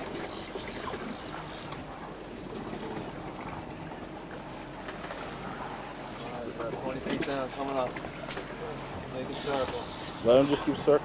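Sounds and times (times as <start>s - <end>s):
boat engine rumble: 0.0s - 11.0s
water sloshing along hull: 0.0s - 11.0s.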